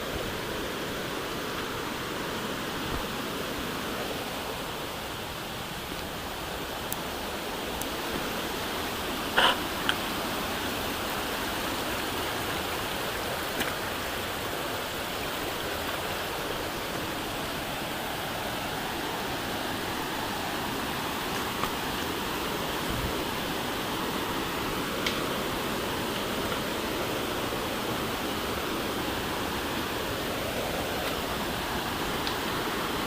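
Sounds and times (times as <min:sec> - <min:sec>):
river flowing: 0:00.0 - 0:33.0.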